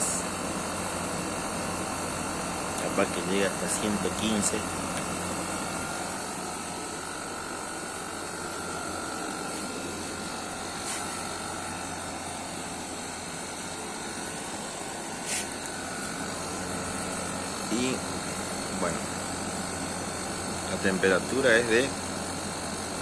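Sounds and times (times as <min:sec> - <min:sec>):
air conditioner running: 0:00.0 - 0:23.0.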